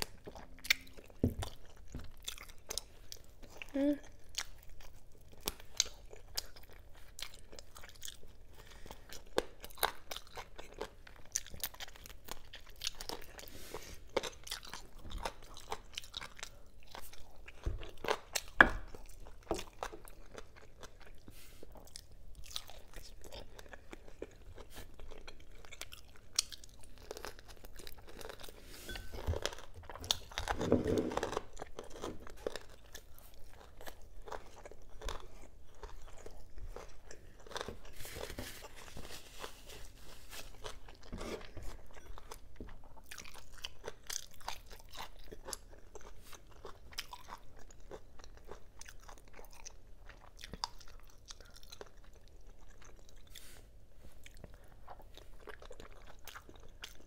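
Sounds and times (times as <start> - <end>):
person chewing and biting: 0.0 - 53.6, 54.2 - 57.0.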